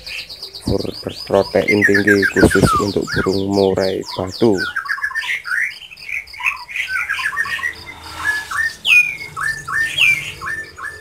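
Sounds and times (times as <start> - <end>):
bird singing whistled notes: 0.0 - 11.0.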